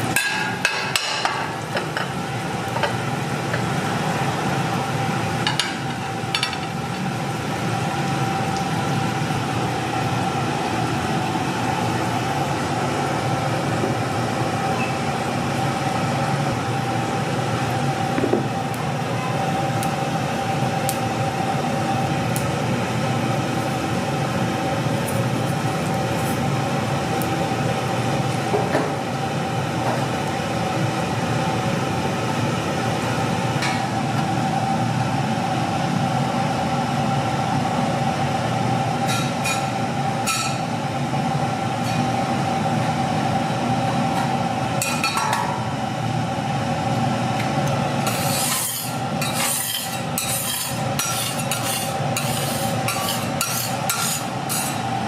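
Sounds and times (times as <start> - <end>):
burners and ventilation roaring: 0.0 - 55.0
steady hum: 0.0 - 55.0.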